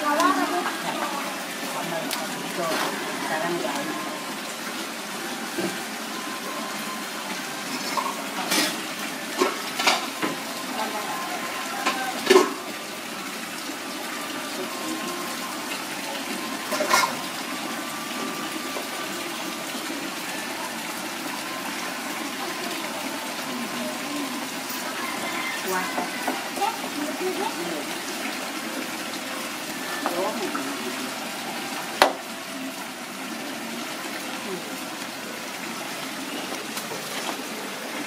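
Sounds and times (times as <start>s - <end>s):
faint voices: 0.0s - 38.0s.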